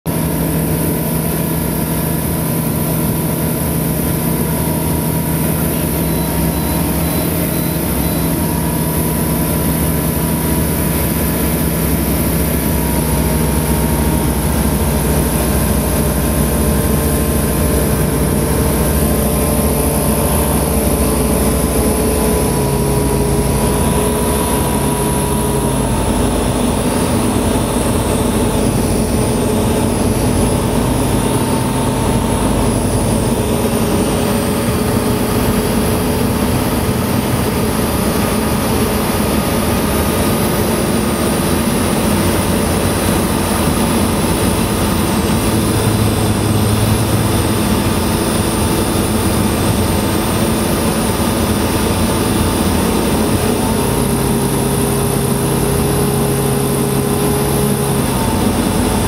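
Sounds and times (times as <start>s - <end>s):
aircraft engine and propeller droning: 0.1s - 59.0s.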